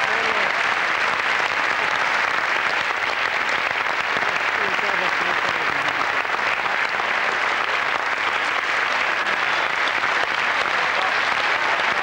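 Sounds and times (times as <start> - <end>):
audience applause: 0.0 - 12.0
dancers clapping along: 0.0 - 12.0.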